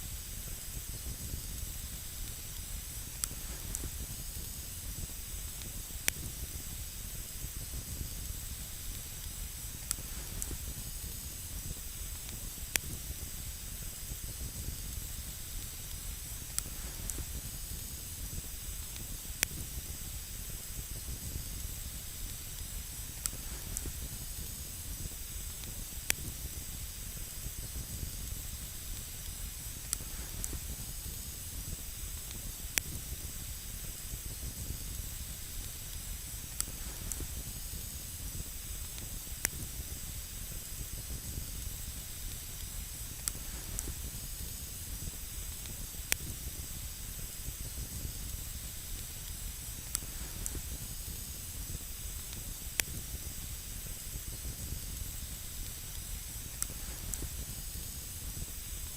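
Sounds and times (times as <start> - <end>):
campfire hissing and rumbling: 0.0 - 58.9
fire crackling pops: 0.0 - 58.9.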